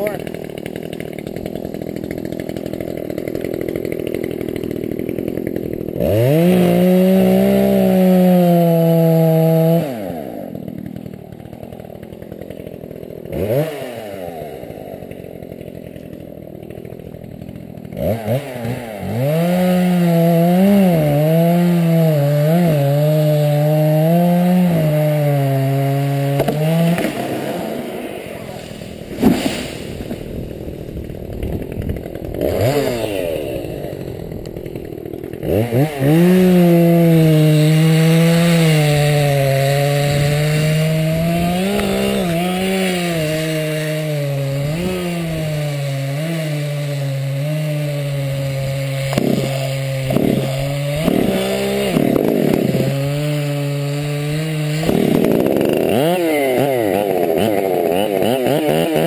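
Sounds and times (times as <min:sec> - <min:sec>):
chainsaw pull-starting and running: 0:00.0 - 0:59.0
chainsaw revving: 0:00.0 - 0:59.0.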